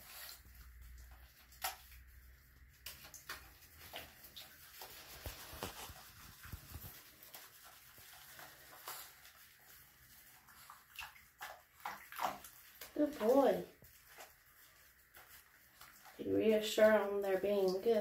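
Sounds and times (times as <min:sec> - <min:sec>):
soft rubbing and squishing fur: 0:00.0 - 0:18.0.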